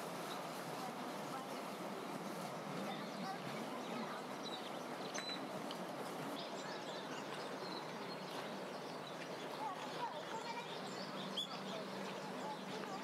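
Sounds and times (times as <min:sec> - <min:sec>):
distant voices murmuring: 0:00.3 - 0:13.0.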